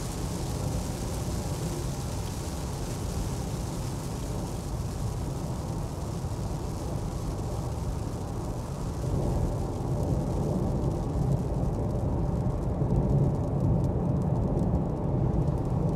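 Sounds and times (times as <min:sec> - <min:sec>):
raindrops ticking on windscreen: 0:00.0 - 0:15.9.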